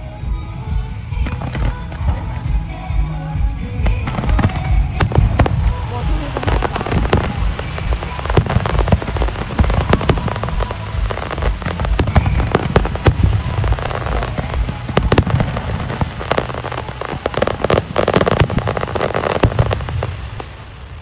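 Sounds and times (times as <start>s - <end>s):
fireworks bangs and crackles: 0.0s - 21.0s
low booming: 0.0s - 21.0s.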